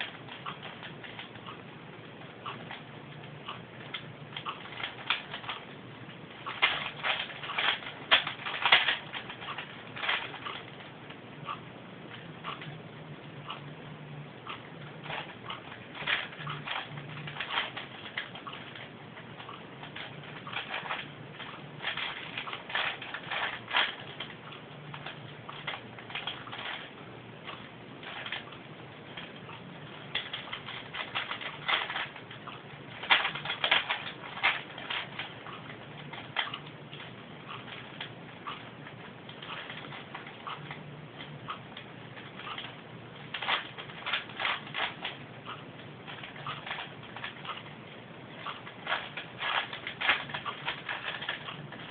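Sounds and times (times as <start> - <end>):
puzzle cube clicking and rattling: 0.0 - 1.6, 3.8 - 10.9, 14.5 - 51.9.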